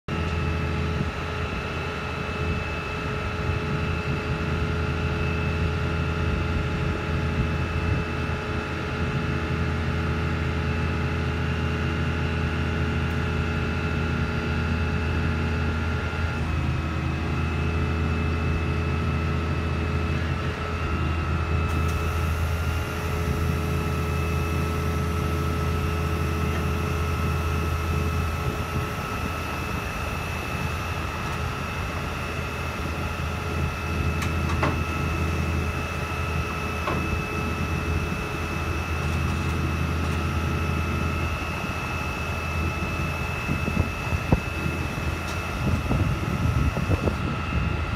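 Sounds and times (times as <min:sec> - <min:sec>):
diesel engine running: 0:00.0 - 0:47.9
high hydraulic whine: 0:00.1 - 0:47.9.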